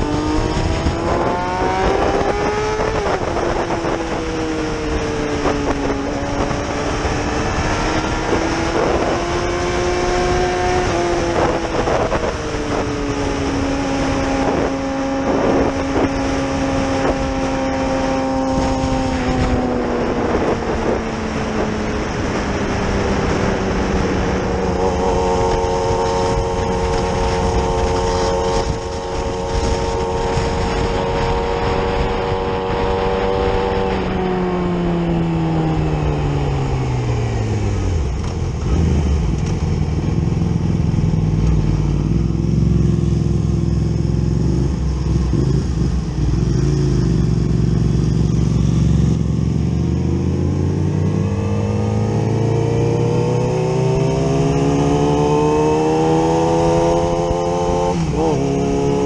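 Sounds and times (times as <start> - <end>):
motorcycle engine cruising: 0.0 - 59.0
wind rush: 0.0 - 59.0.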